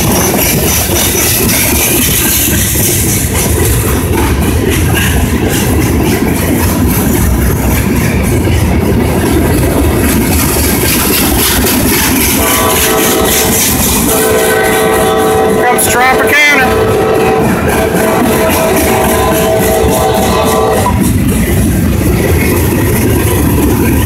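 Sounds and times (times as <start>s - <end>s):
steel wheels rumbling on rail: 0.0s - 24.0s.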